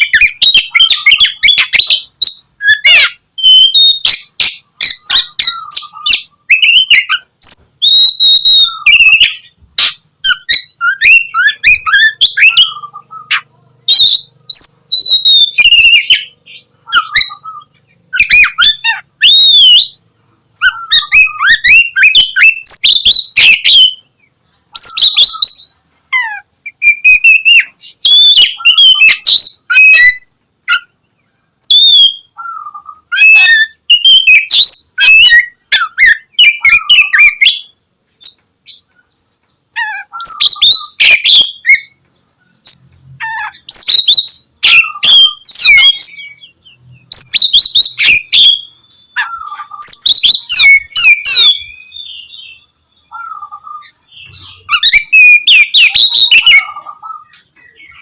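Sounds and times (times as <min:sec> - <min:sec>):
bird singing whistles and chirps: 0:00.0 - 0:39.2, 0:39.8 - 0:58.0.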